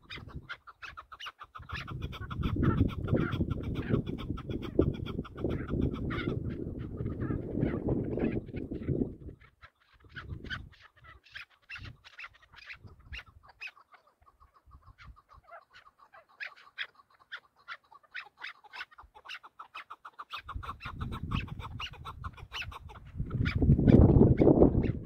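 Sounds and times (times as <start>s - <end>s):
partridge clucking calls: 0.0s - 25.0s.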